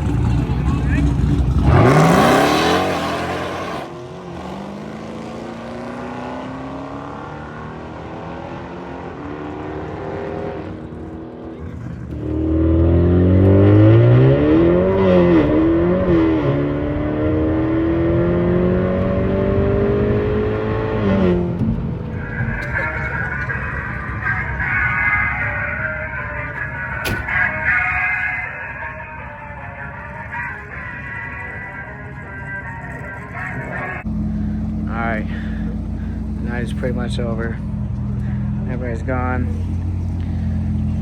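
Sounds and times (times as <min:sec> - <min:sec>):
cars accelerating at full throttle: 0:00.0 - 0:41.0.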